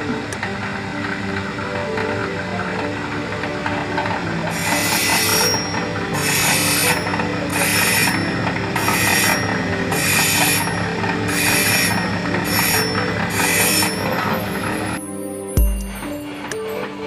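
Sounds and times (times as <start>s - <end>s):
stone scraping on grinding wheel: 0.0s - 15.0s
grinding machine humming: 0.0s - 17.0s.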